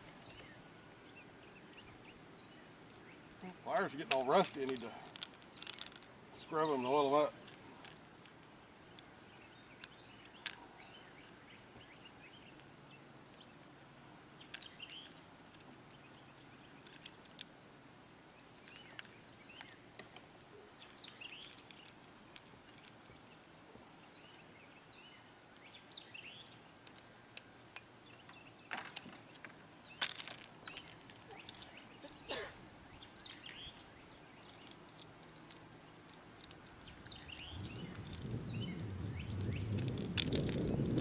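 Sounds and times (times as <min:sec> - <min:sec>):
birds chirping: 0:00.0 - 0:17.5, 0:18.2 - 0:41.0.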